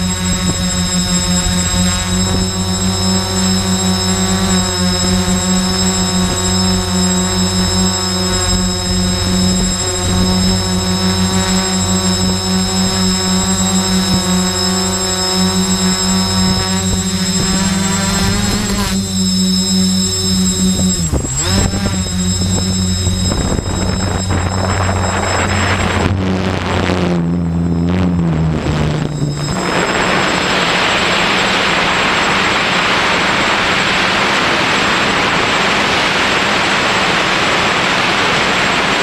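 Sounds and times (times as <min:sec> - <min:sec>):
drone propellers humming: 0:00.0 - 0:39.0
high-pitched electronic whines: 0:00.0 - 0:39.0.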